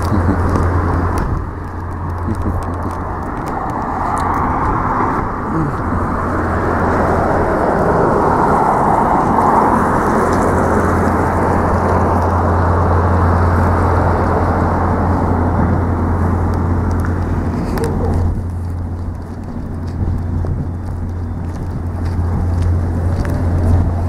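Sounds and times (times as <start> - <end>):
cars running along road: 0.0 - 24.0.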